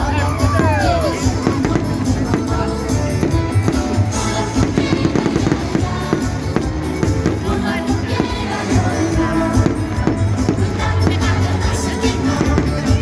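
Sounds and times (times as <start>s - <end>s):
fireworks popping and crackling: 0.0s - 13.0s
loud festival music: 0.0s - 13.0s.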